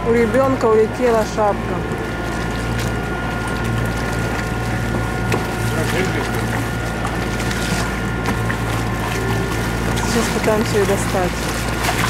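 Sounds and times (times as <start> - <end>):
diesel engine drone: 0.0 - 12.0
water rushing: 0.0 - 12.0.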